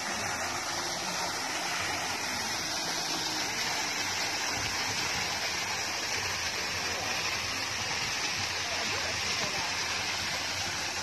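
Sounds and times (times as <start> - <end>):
fountain water cascading: 0.0 - 11.0
water splashing into pool: 0.0 - 11.0.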